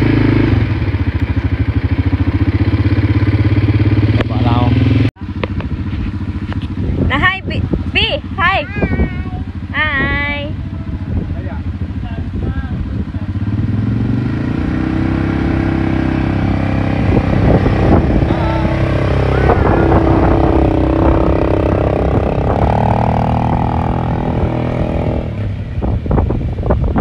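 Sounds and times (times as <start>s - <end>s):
quad bike engine revving: 0.0s - 27.0s.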